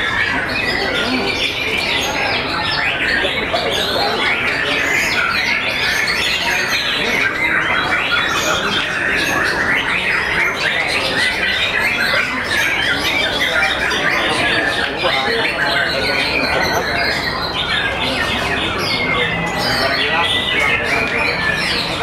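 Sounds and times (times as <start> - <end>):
many birds singing whistled phrases: 0.0 - 22.0.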